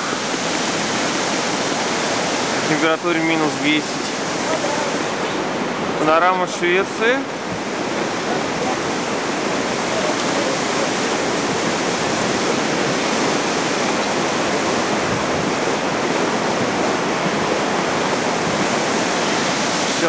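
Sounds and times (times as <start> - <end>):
rapids rushing over rocks: 0.0 - 20.0.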